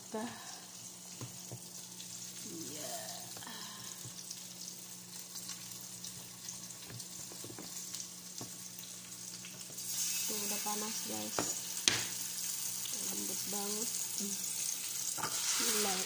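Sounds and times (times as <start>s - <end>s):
oil sizzling in a pan: 0.0s - 16.0s.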